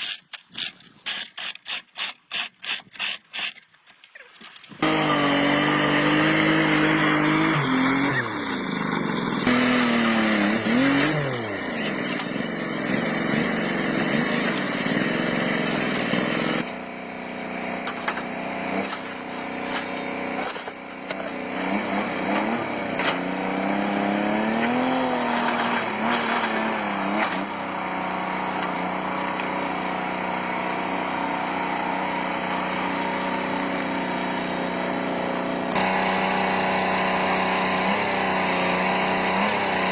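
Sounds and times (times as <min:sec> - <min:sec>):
motor running: 0:04.8 - 0:39.9.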